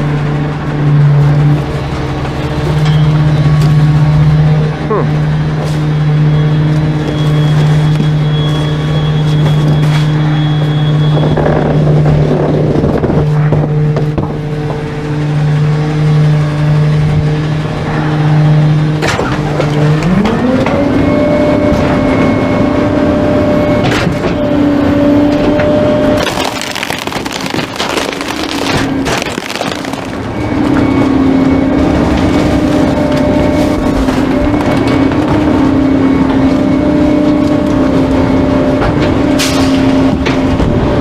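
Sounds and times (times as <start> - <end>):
truck diesel engine running: 0.0 - 41.0.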